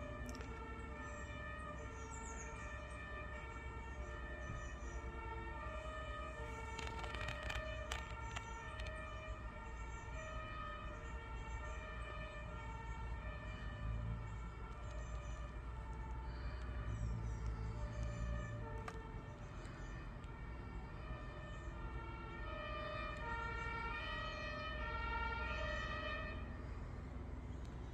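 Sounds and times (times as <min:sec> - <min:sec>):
fire engine two-tone sirens: 0:00.0 - 0:27.9.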